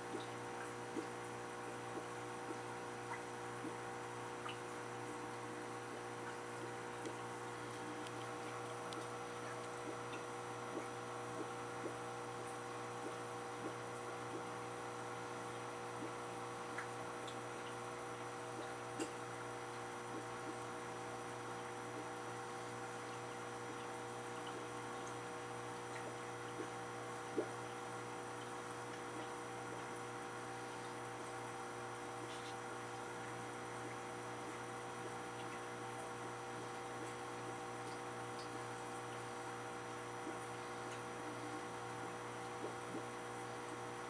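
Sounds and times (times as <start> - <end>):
aquarium filter humming: 0.0 - 44.0.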